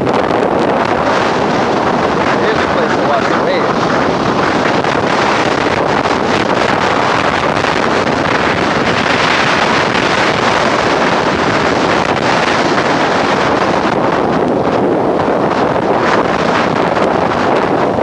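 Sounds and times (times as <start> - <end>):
breaking surf: 0.0 - 18.0
strong wind on microphone: 0.0 - 18.0.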